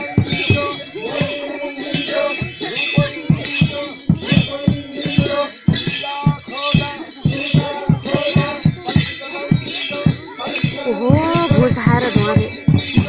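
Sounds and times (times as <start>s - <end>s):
drum beating dance rhythm: 0.0s - 13.0s
metallic jingling: 0.0s - 13.0s.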